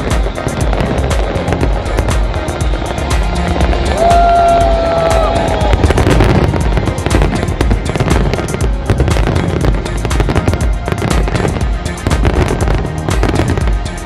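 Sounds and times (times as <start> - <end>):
deep firework booms: 0.0 - 14.0
fireworks bangs and crackles: 0.0 - 14.0
music playing: 0.0 - 14.0.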